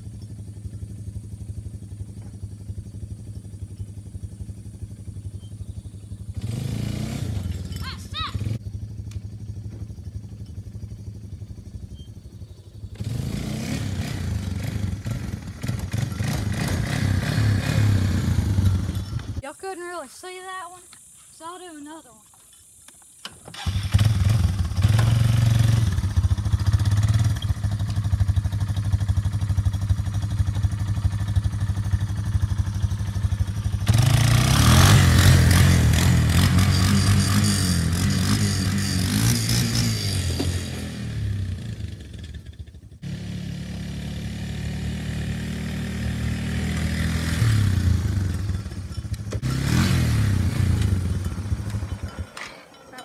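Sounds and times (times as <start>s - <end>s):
atv engine running: 0.0s - 19.7s, 23.5s - 53.0s.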